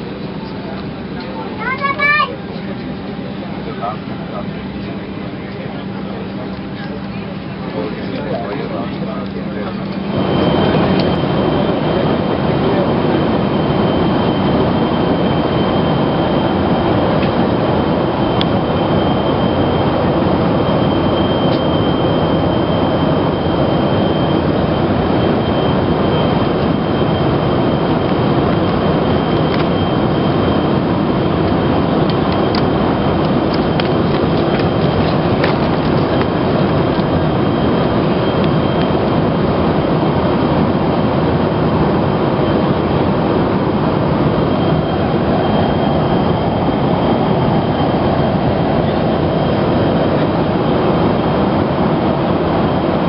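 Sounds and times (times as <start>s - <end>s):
airliner cabin engine noise: 0.0s - 53.0s.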